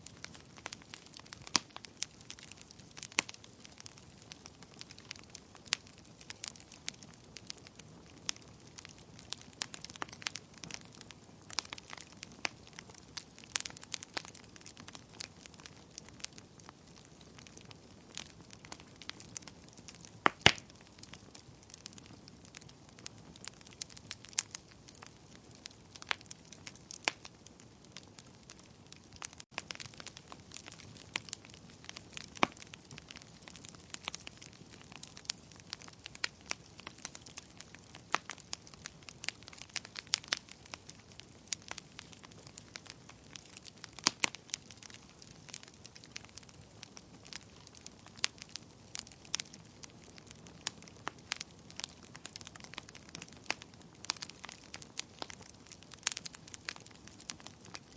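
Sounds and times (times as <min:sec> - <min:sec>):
fire crackling in a fireplace: 0:00.0 - 0:57.9.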